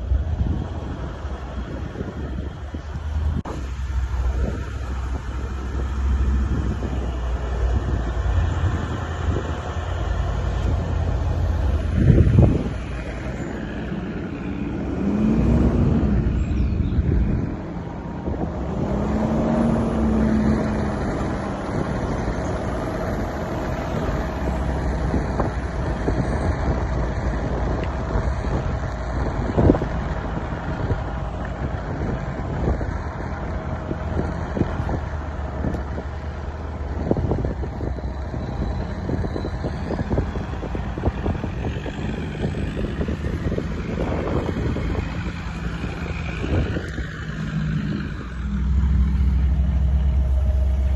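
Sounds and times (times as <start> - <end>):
suv engine running: 0.0 - 50.9.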